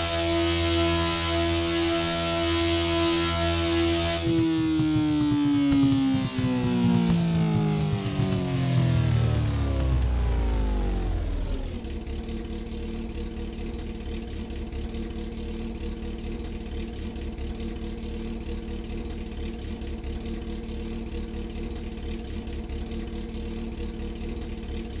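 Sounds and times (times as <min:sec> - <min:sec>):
motorcycle engine idling: 0:01.4 - 0:25.0.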